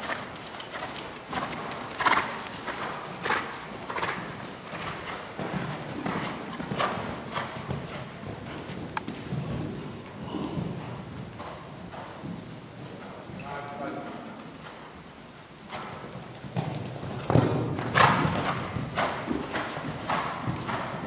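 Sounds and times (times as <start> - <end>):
horse hoofbeats on sand: 0.0 - 21.0.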